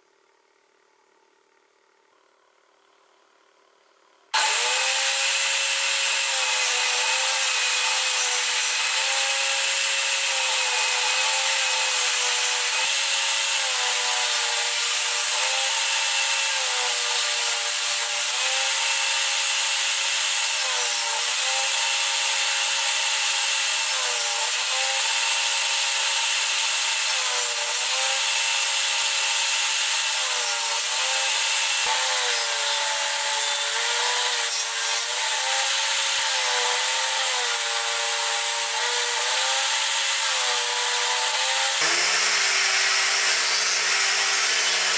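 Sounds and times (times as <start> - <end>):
table saw cutting wood: 4.3 - 44.9.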